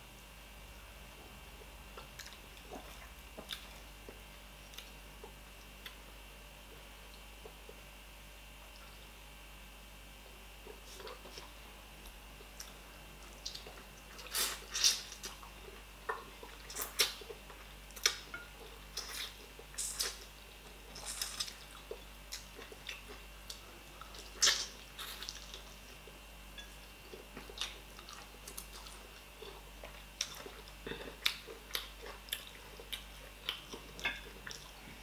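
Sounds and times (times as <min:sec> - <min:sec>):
chewing and sucking mouth sounds: 0:01.2 - 0:06.0, 0:10.6 - 0:35.0.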